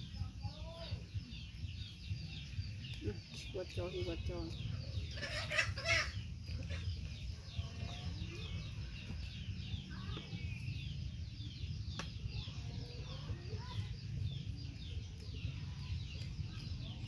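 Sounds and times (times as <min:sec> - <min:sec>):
birds chirping rapidly: 0:00.0 - 0:17.0
steady low rumble: 0:00.0 - 0:17.0.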